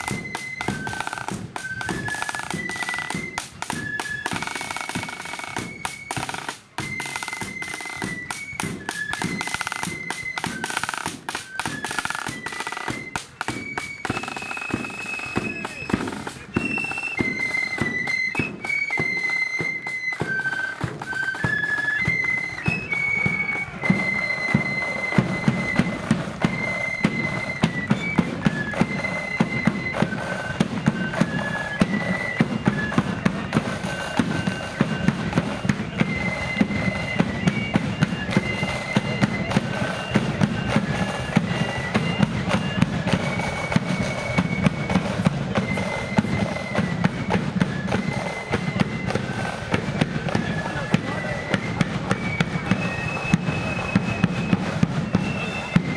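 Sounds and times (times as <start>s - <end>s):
flute band playing march: 0.0s - 55.9s
rattling snare drums: 0.0s - 55.9s.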